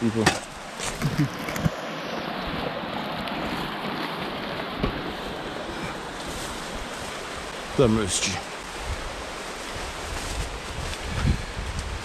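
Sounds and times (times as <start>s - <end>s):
water rushing over rocks: 0.0s - 11.3s.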